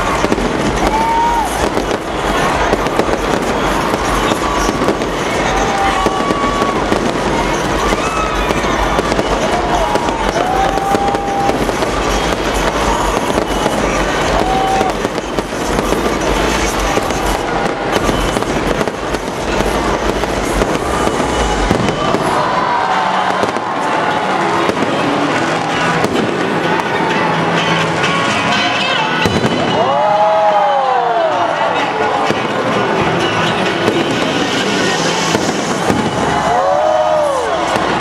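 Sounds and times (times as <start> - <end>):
fireworks popping and banging: 0.0 - 30.6, 32.0 - 38.0.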